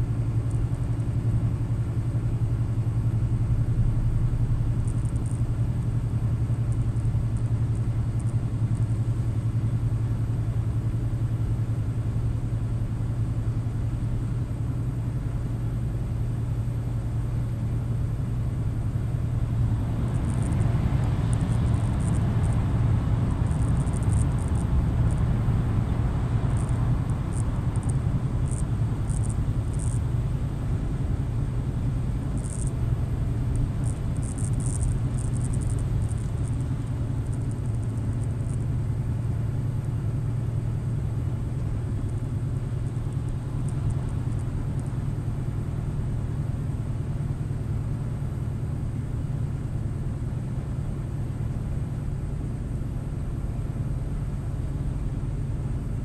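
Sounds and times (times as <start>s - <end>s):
diesel truck engine drone: 0.0s - 56.0s
tyre road noise: 0.0s - 56.0s.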